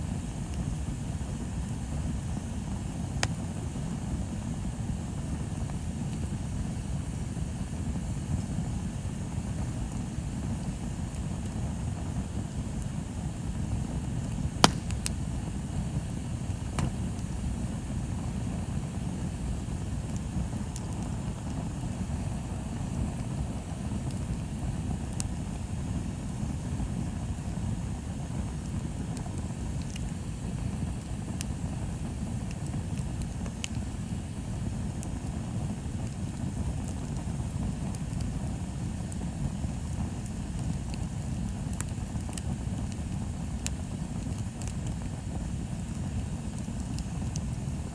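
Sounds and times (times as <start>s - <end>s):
bonfire rumbling: 0.1s - 47.9s
fire crackling and popping: 0.1s - 47.9s.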